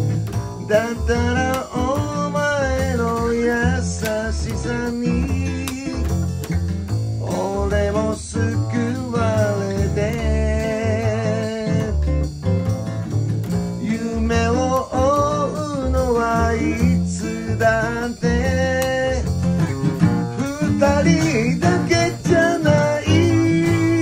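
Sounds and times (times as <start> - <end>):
drum kit: 0.0 - 24.0
strummed acoustic guitar: 0.0 - 24.0
upright bass: 0.0 - 24.0
man singing: 0.6 - 6.3, 7.2 - 12.2, 13.8 - 19.7, 20.3 - 24.0.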